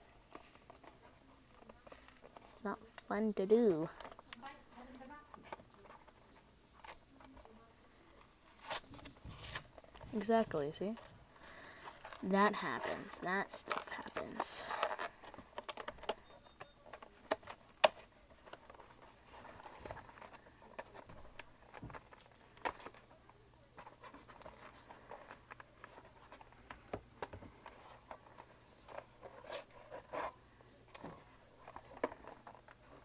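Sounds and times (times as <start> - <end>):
packaging rustling and scraping: 0.0 - 33.0.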